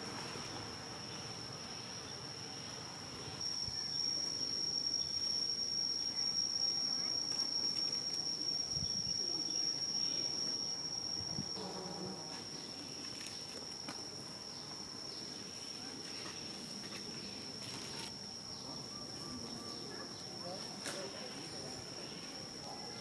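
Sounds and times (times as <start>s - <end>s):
insects droning shrill tone: 0.5s - 23.0s.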